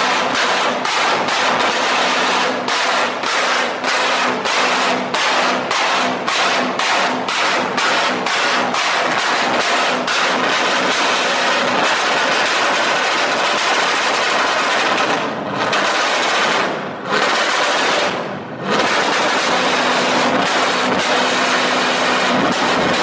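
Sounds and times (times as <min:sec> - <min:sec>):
car engine revving: 0:00.0 - 0:23.0
exhaust crackling pops: 0:00.0 - 0:23.0.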